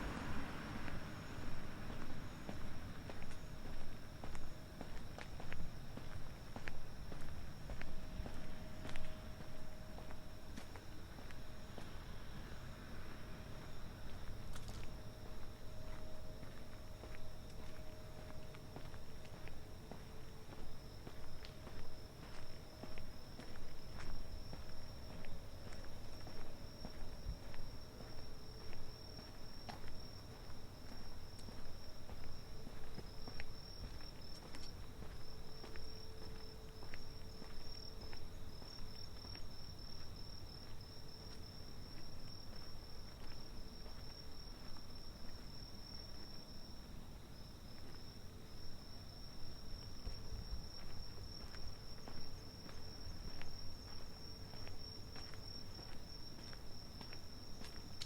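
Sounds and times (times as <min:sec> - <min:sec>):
footsteps: 0:00.0 - 0:46.5, 0:49.4 - 0:58.0
low background hum: 0:00.0 - 0:58.0.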